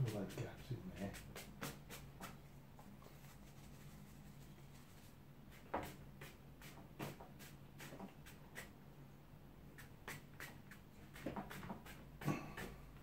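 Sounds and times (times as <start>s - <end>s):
brush swishing on wet paper: 0.0s - 8.7s, 9.7s - 13.0s.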